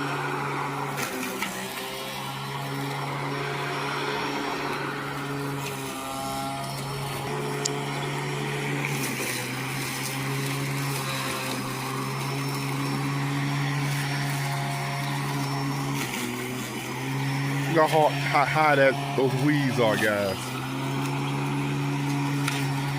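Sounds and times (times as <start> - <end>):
electric lawnmower humming: 0.0 - 22.9.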